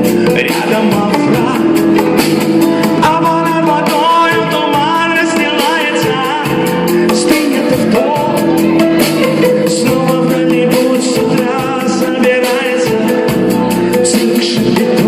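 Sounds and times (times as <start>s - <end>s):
guitar: 0.0s - 15.0s
man singing: 0.0s - 15.0s
steady drum beat: 0.0s - 15.0s.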